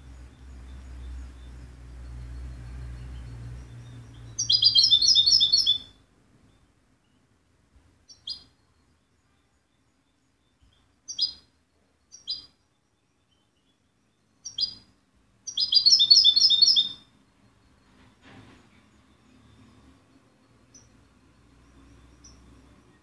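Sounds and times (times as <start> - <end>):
goldfinch chirps: 0.0 - 7.3, 8.1 - 18.1, 18.7 - 23.0.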